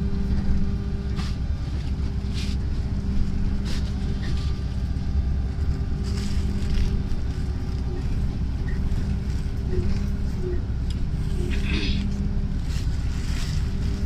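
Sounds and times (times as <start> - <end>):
low rumble of trolleybus cabin: 0.0 - 14.0
steady hum: 0.0 - 14.0.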